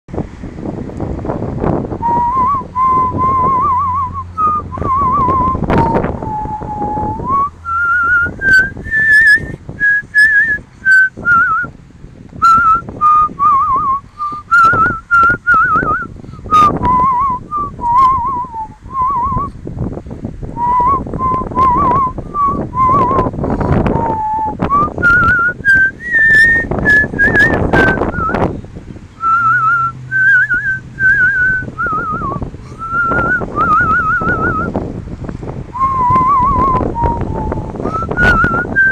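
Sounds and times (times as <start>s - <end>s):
wind on microphone: 0.1s - 38.9s
person whistling a tune: 2.0s - 11.7s, 12.4s - 19.5s, 20.6s - 23.3s, 23.9s - 28.4s, 29.2s - 34.8s, 35.7s - 38.9s.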